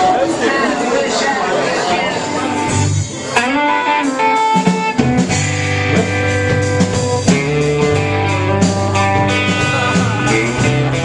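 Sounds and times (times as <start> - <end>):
live band with electric guitars: 0.0 - 11.0
bass line: 2.1 - 11.0.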